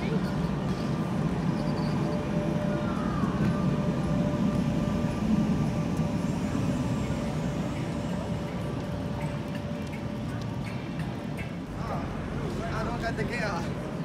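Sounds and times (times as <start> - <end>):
faint motor whine: 0.0 - 11.5
tram wheels rumbling on rail: 0.0 - 14.0.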